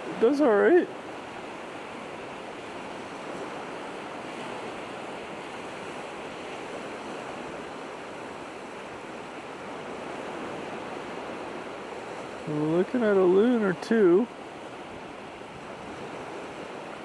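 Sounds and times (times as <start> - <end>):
waves and surf on shore: 0.0 - 17.0
wind: 0.0 - 17.0.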